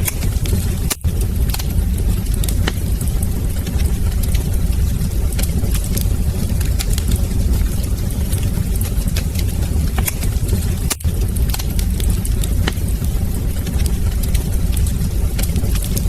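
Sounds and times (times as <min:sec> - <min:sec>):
low rumble: 0:00.0 - 0:16.0
wood fire crackling: 0:00.0 - 0:16.0.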